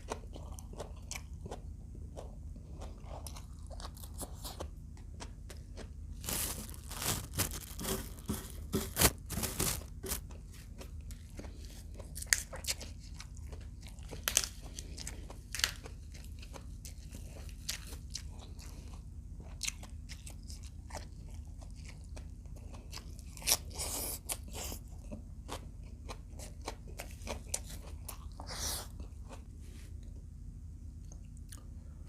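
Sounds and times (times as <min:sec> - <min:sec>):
chewing and crunching: 0:00.0 - 0:32.0
steady low hum: 0:00.0 - 0:32.0.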